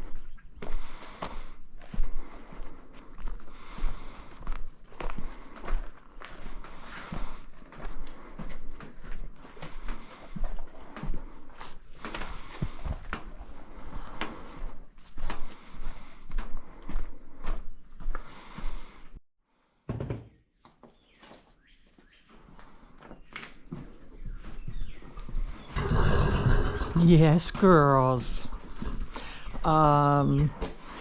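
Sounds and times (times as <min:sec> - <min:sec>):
footsteps: 0:00.0 - 0:19.2, 0:21.2 - 0:31.0.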